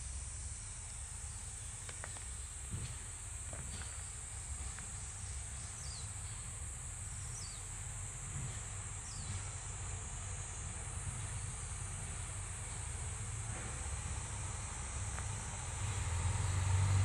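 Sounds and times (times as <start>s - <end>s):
diesel railcar rumbling: 0.0s - 17.0s
insects buzzing: 0.0s - 17.0s.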